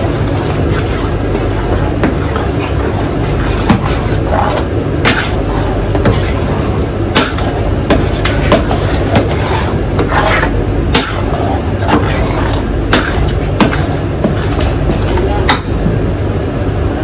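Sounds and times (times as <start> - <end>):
metal spoon scraping a pan: 0.0 - 15.0
steady low hum: 0.0 - 17.0.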